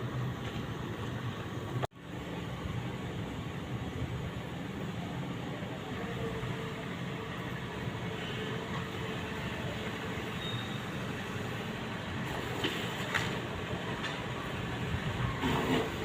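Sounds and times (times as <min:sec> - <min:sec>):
excavator diesel engine rumbling: 0:00.0 - 0:16.0.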